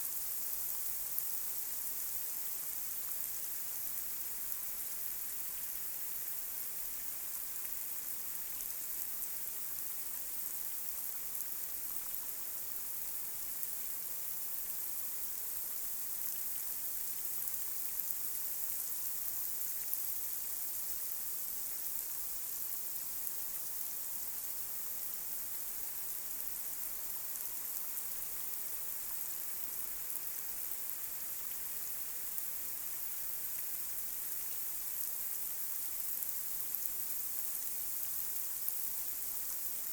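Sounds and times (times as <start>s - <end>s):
light rain on street: 0.1s - 39.9s.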